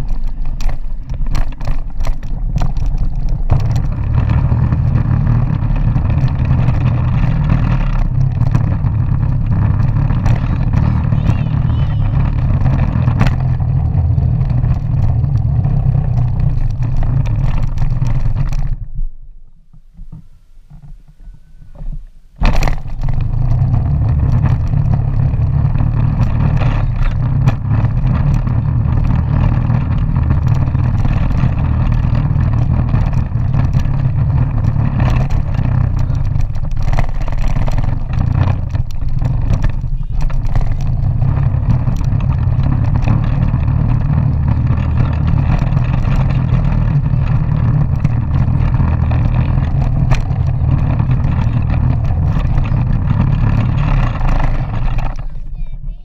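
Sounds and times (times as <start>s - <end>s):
toy vehicle wheels rumbling: 0.0s - 56.0s.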